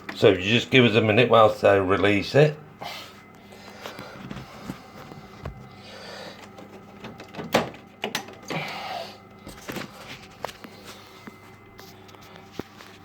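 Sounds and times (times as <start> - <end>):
faint motor hum: 0.0 - 13.0.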